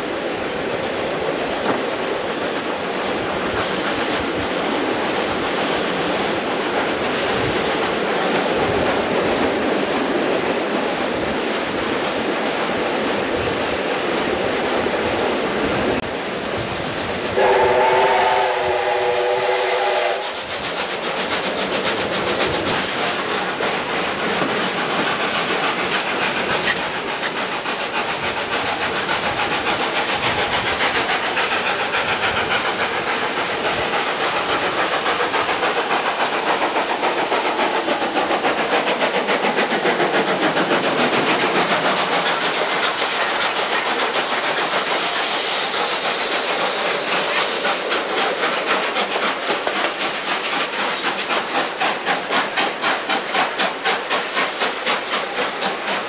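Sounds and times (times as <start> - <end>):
loud hissing steam: 0.0 - 56.0
steam locomotive exhaust chuffs: 0.0 - 56.0.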